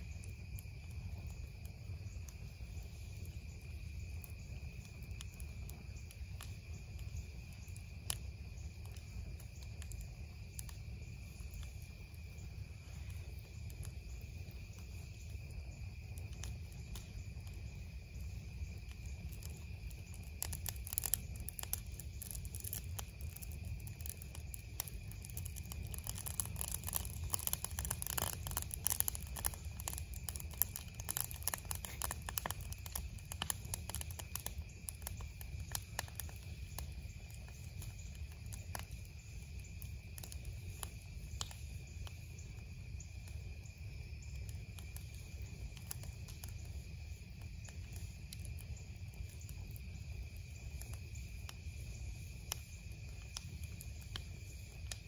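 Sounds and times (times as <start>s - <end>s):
campfire crackling and popping: 0.0s - 55.0s
night insects chorus: 0.0s - 55.0s.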